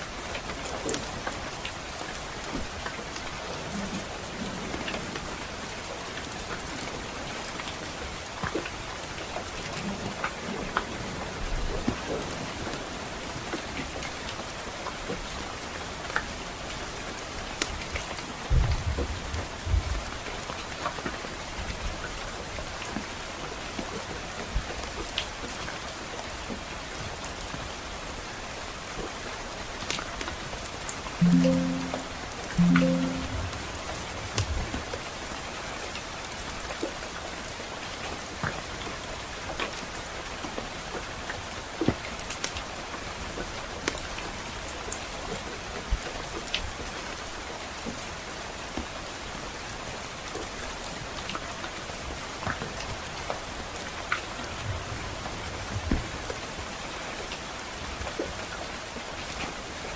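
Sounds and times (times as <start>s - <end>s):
steady rain hissing: 0.0s - 32.0s, 35.5s - 59.9s.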